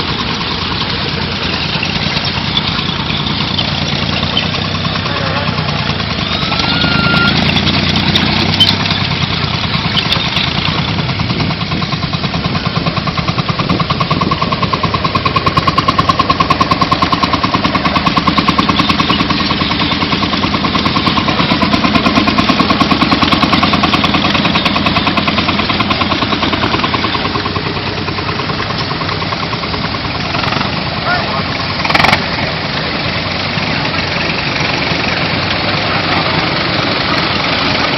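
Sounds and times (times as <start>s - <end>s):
old engine running: 0.0s - 37.9s.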